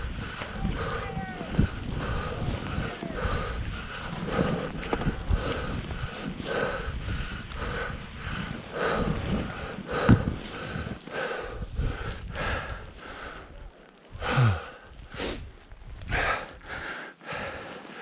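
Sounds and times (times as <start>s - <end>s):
person breathing hard: 0.0s - 18.0s.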